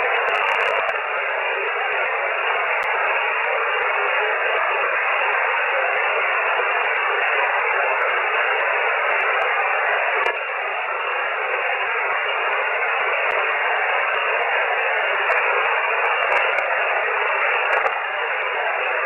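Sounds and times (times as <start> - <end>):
shortwave receiver hiss: 0.0 - 19.0.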